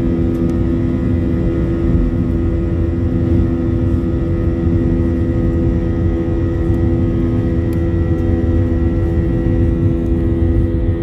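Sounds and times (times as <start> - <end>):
jet engines hum and whine: 0.0 - 11.0.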